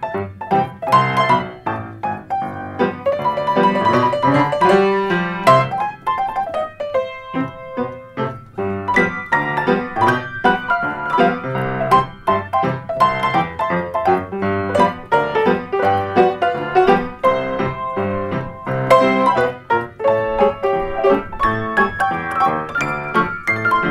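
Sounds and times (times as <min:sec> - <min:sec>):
solo ragtime piano: 0:00.0 - 0:23.9.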